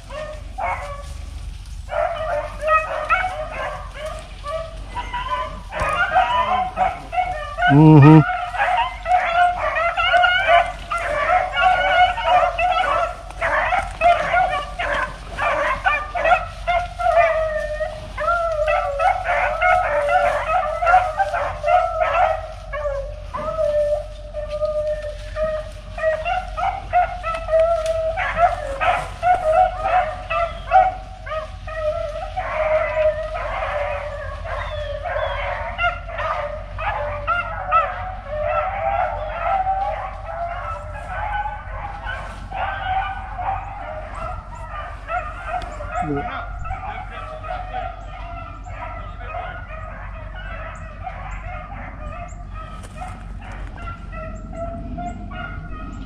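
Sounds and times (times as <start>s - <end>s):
hounds baying: 0.0s - 56.0s.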